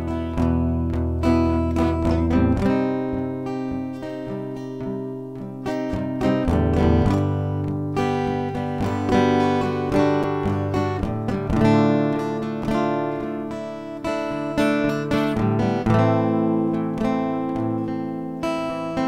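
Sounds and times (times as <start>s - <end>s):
guitar strumming chords: 0.0s - 19.0s.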